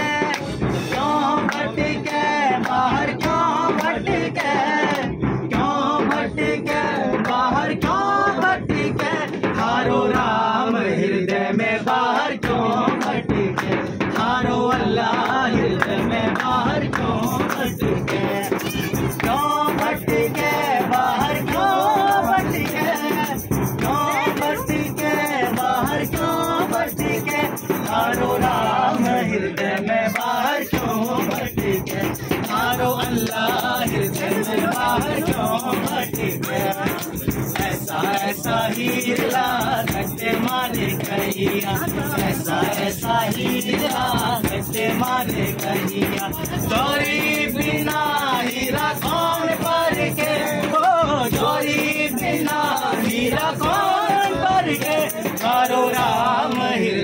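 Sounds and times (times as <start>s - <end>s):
frame drum beat: 0.0s - 10.6s, 11.4s - 56.6s
percussion: 0.0s - 57.0s
voices singing: 0.0s - 57.0s.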